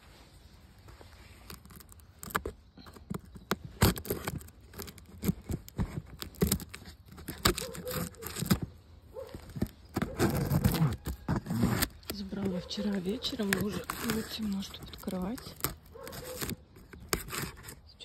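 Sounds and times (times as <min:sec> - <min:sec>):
packing tape crackling and ripping: 0:00.8 - 0:17.9.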